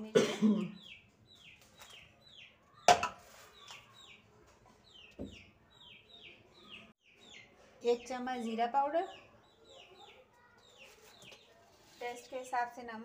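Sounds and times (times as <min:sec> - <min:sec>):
small bird chirping: 0:00.7 - 0:12.5.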